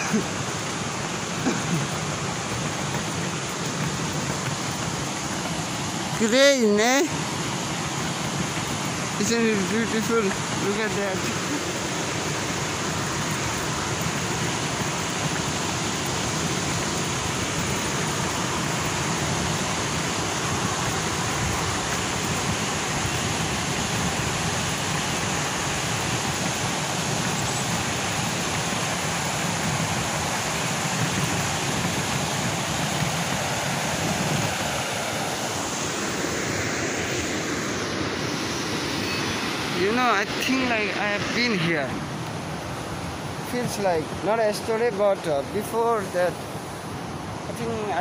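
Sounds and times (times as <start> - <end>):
water rushing over weir: 0.0 - 48.0.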